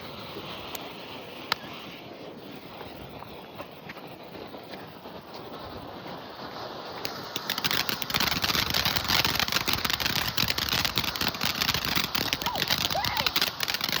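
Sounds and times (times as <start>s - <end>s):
firework crackling pops: 0.0s - 14.0s
firework hiss: 0.0s - 14.0s.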